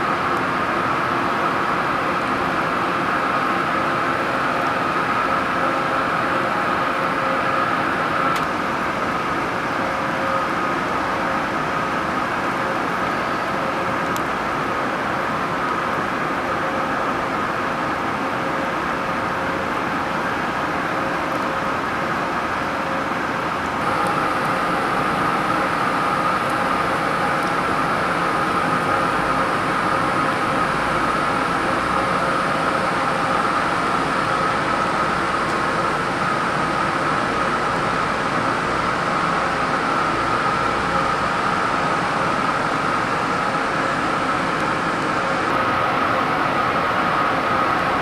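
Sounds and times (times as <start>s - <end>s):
factory machinery drone: 0.0s - 48.0s
high steady whine: 0.0s - 48.0s.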